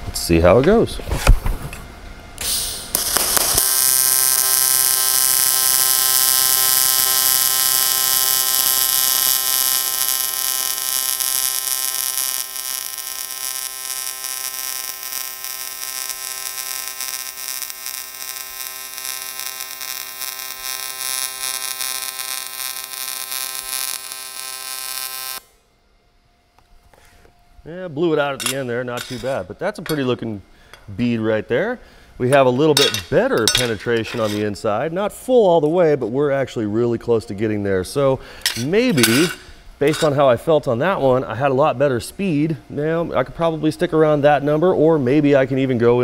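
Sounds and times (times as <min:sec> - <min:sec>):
welding arc buzzing hiss: 0:02.4 - 0:46.0.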